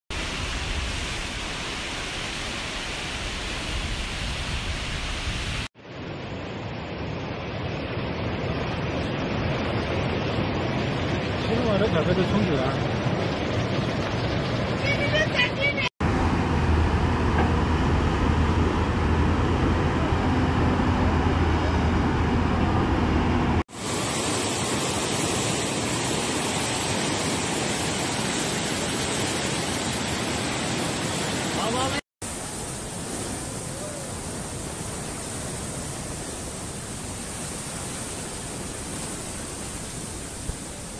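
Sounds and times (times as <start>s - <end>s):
flood river rushing: 0.1s - 40.9s.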